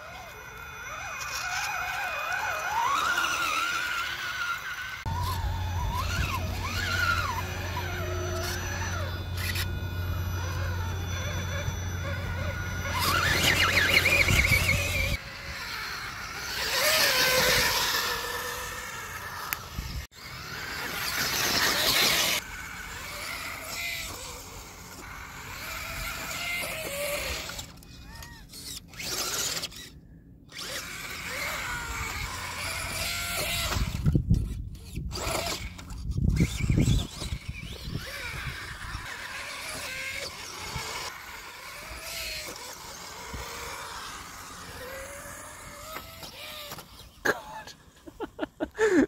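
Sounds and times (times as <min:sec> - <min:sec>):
rc car motor whining: 0:00.0 - 0:49.0.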